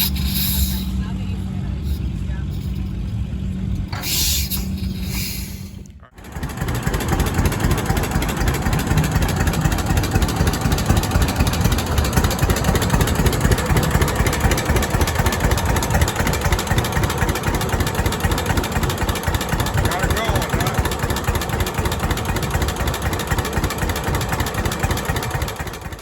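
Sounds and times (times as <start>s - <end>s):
engine chugging steadily: 0.0s - 26.0s.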